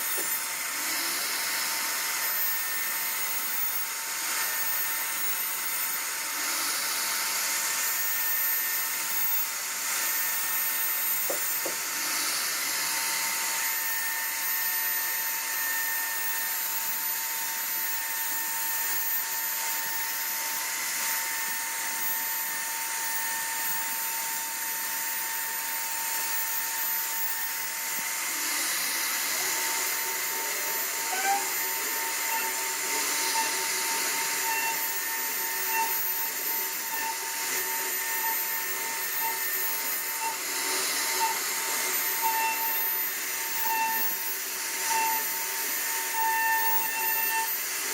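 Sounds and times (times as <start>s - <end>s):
router spindle whining: 0.0s - 47.9s
wood cutting hiss: 0.0s - 47.9s.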